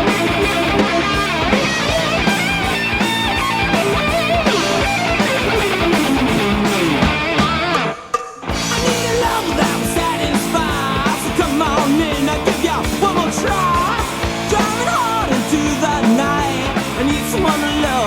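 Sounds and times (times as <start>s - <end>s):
bending lead guitar line: 0.0s - 18.0s
instrumental rock music: 0.0s - 18.0s.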